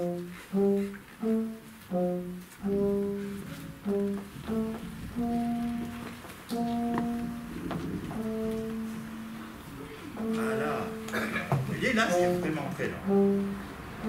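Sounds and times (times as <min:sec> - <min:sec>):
wind instrument slow melody: 0:00.0 - 0:14.0.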